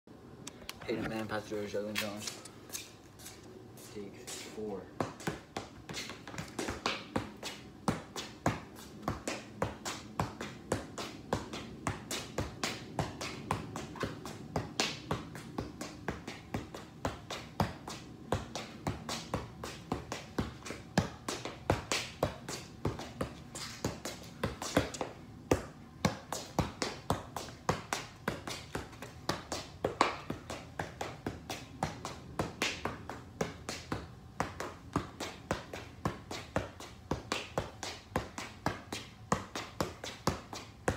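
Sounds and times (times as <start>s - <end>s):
ball touches on feet: 0.5s - 40.9s.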